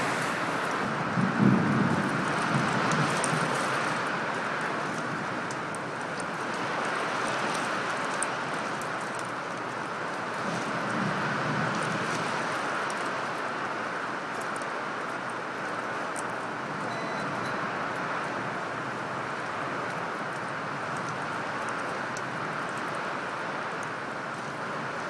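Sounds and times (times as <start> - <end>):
rain and wind on window glass: 0.0 - 25.0.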